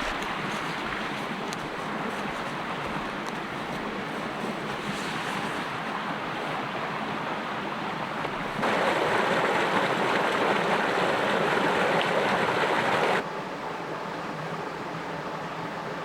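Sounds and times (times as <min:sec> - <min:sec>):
creek flowing and splashing: 0:00.0 - 0:13.3.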